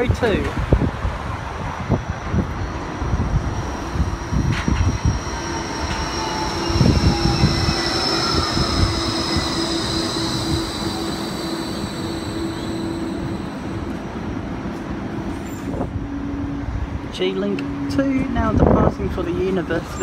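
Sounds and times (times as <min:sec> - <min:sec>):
tram electric drive whine: 0:00.0 - 0:20.0
wheel and rail rumble: 0:00.0 - 0:20.0.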